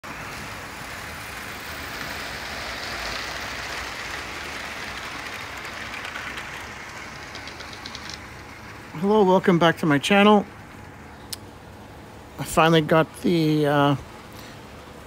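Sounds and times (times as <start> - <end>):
model train wheels on rails: 0.0 - 15.0.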